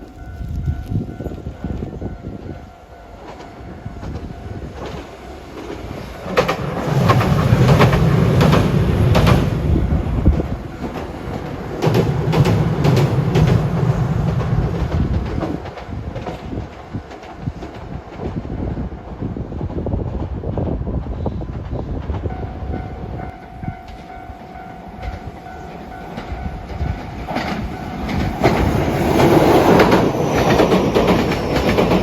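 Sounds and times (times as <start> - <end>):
train rumbling: 0.0 - 32.0
train wheels clicking over rail joints: 3.2 - 20.6, 21.5 - 32.0.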